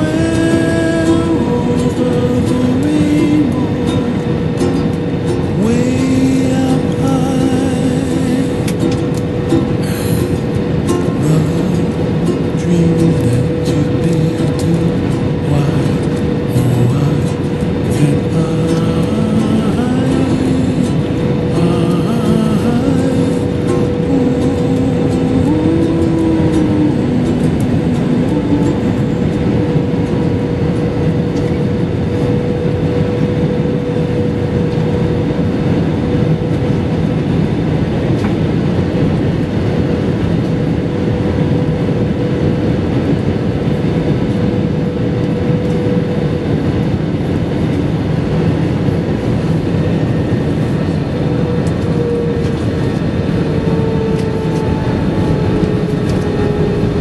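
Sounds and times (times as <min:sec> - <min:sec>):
jet engines and airflow rushing: 0:00.0 - 0:57.0.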